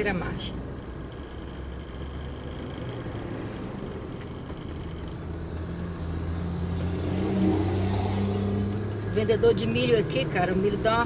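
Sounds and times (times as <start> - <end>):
engine and road hum inside car: 0.0 - 11.0.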